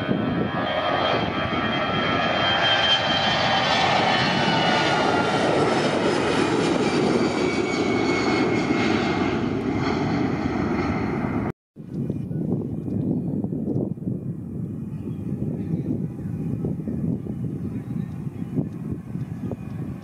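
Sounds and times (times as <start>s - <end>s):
jet engines roaring at takeoff: 0.0s - 11.5s, 12.3s - 20.0s.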